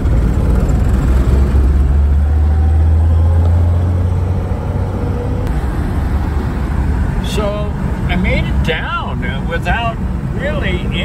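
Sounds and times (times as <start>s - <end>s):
engine and road noise drone: 0.0s - 11.0s.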